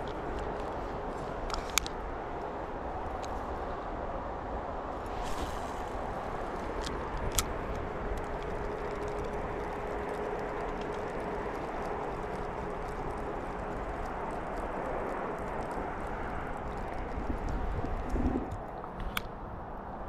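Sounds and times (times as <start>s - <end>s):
low rushing background noise: 0.0s - 20.0s.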